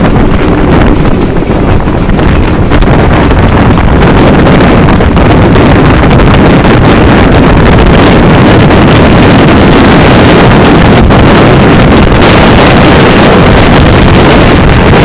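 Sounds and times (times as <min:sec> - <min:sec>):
steam locomotive exhaust: 0:00.0 - 0:15.0
wind buffeting microphone: 0:00.0 - 0:15.0.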